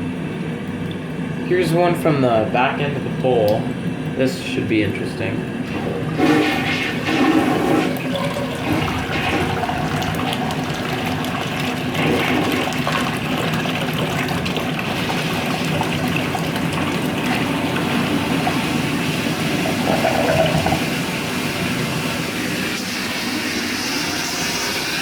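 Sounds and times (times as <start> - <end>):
toilet flushing: 0.0 - 25.0.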